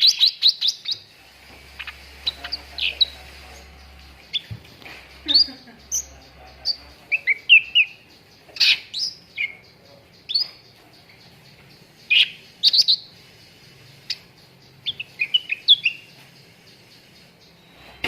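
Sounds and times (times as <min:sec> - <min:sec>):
songbird chirping in bursts: 0:00.0 - 0:18.0.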